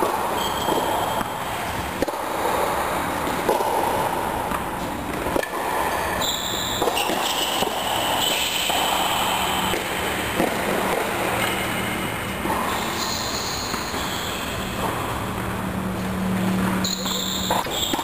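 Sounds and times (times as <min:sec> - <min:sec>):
steady background noise: 0:00.0 - 0:18.0
tennis balls struck by rackets: 0:00.0 - 0:18.0.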